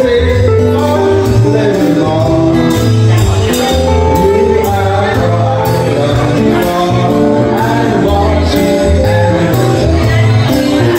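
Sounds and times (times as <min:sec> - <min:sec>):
bass line: 0:00.0 - 0:10.9
drum kit with cymbals: 0:00.0 - 0:10.9
electric guitars: 0:00.0 - 0:10.9
man singing into microphone: 0:00.0 - 0:10.9.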